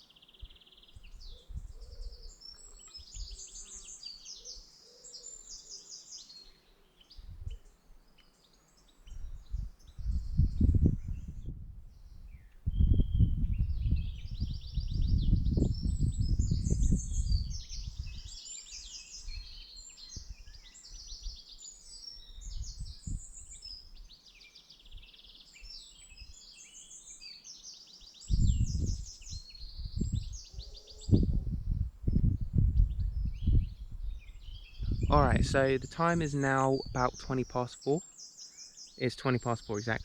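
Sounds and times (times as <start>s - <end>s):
songbird singing trills: 0.0s - 40.0s.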